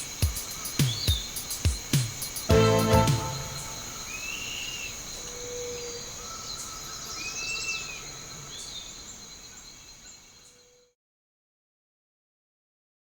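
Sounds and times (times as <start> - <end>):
insects trilling: 0.0 - 10.8
bird calls: 0.0 - 10.9.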